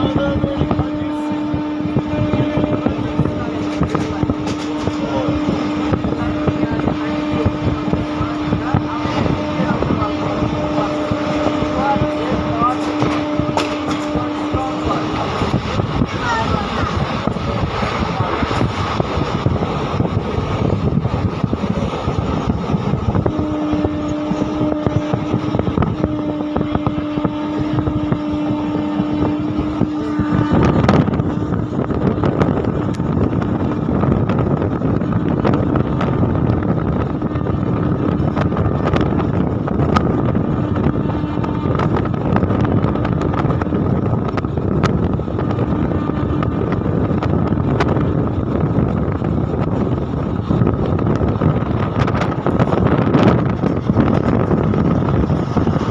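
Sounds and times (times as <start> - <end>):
train horn blasts: 0.0 - 55.9
train wheel and wind rumble: 0.0 - 55.9.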